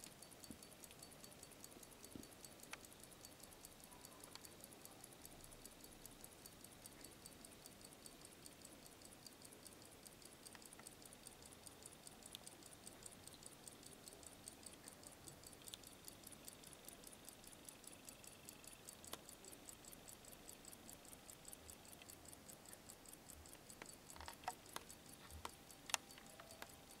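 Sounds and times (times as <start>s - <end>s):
watch ticking: 0.0s - 27.0s.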